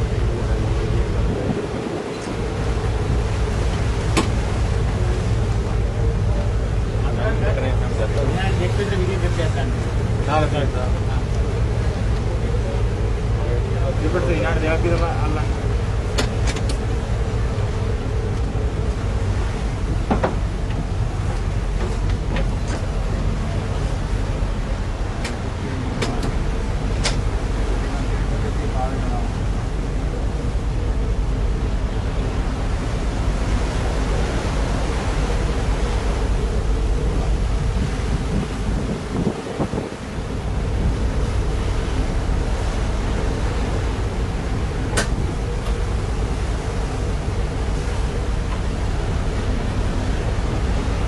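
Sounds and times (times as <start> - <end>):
boat rumble on rough sea: 0.0 - 51.0
faint constant hum: 0.0 - 51.0
wind buffeting microphone: 0.0 - 51.0.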